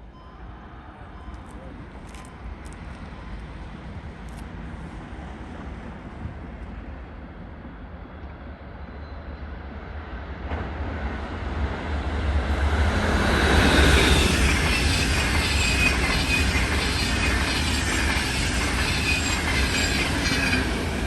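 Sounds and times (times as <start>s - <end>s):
train approaching: 0.0s - 21.0s.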